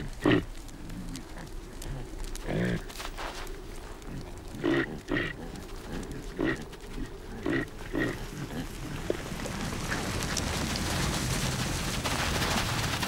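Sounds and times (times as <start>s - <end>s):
caribou grunting: 0.0s - 10.6s.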